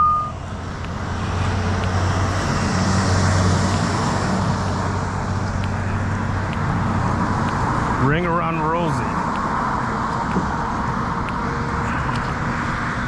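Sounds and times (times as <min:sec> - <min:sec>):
road traffic: 0:00.0 - 0:13.0
vehicle engine humming: 0:00.0 - 0:13.0.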